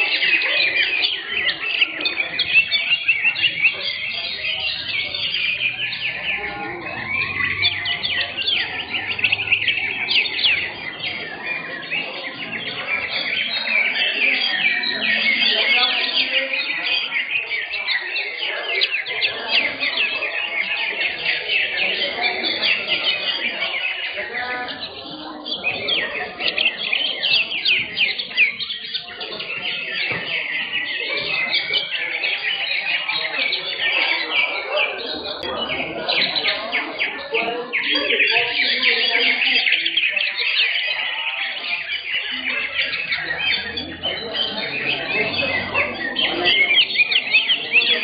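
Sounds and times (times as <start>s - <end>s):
birds chirping and trilling: 0.0s - 48.0s.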